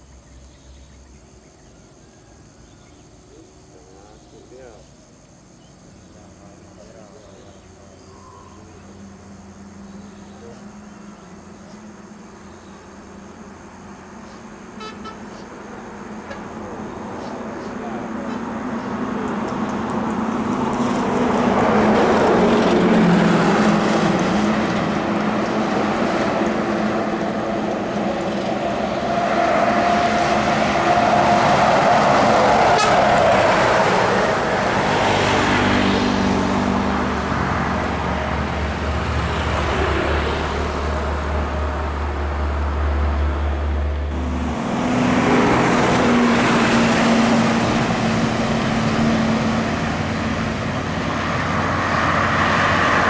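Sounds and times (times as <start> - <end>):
buses passing on highway: 0.0 - 53.0
truck traffic: 5.8 - 53.0.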